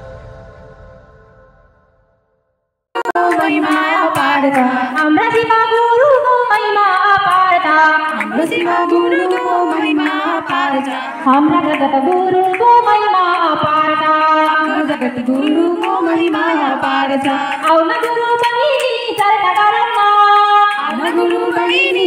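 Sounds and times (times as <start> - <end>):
women singing together: 3.0 - 22.0.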